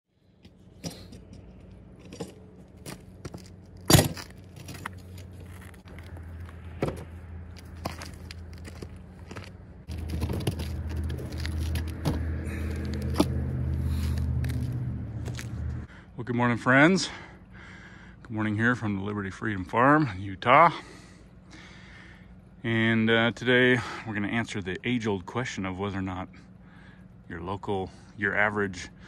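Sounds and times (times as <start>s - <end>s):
generator engine hum: 0.1s - 29.0s.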